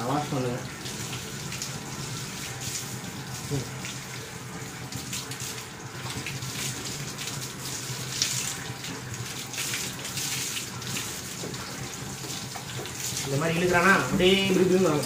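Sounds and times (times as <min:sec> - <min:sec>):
hose water splashing on wet coat: 0:00.0 - 0:15.0.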